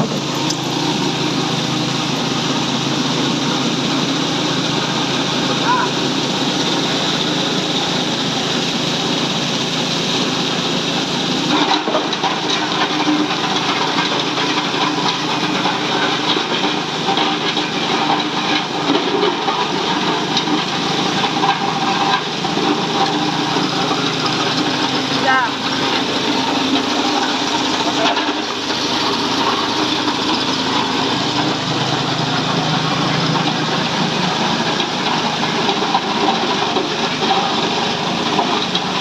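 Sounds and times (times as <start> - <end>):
motorized ice crusher running: 0.0 - 39.0.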